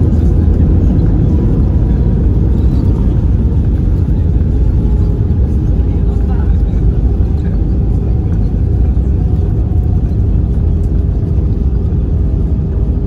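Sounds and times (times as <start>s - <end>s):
aircraft cabin rumble: 0.0s - 13.0s.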